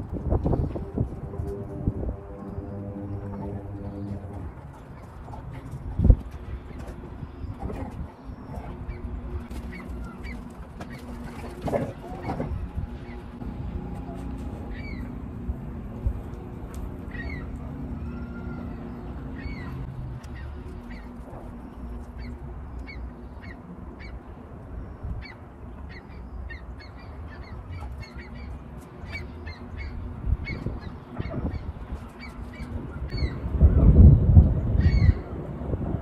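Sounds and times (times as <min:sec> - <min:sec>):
birds chirping: 0:00.0 - 0:33.9
steady low rumble: 0:00.0 - 0:36.0.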